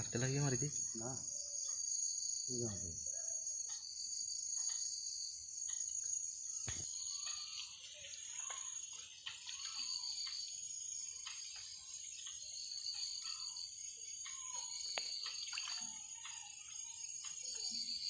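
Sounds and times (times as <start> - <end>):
night insect chorus: 0.0 - 18.0.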